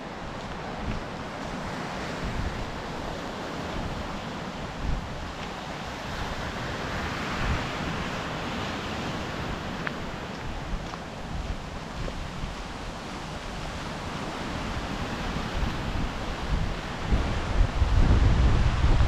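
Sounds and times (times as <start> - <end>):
sea waves washing onto shore: 0.0 - 19.0
wind buffeting microphone: 0.0 - 19.0.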